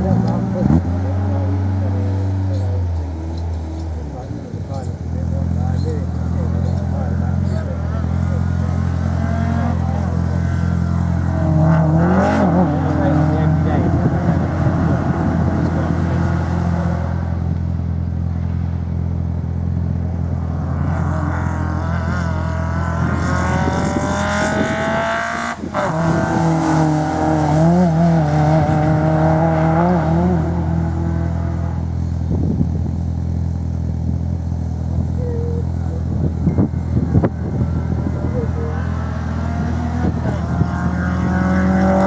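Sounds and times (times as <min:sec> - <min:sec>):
car engine accelerating hard: 0:00.0 - 0:42.0.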